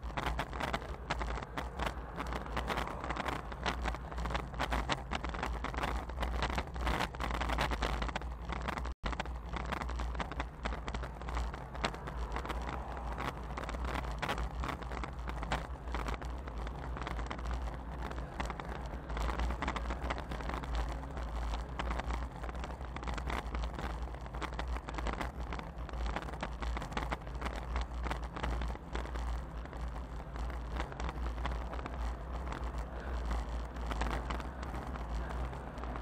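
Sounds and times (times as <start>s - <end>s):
deep rumble of road noise: 0.0s - 36.0s.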